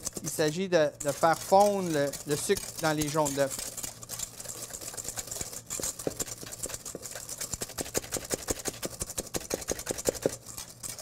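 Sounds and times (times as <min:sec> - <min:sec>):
whisk beating in metal bowl: 0:00.0 - 0:11.0.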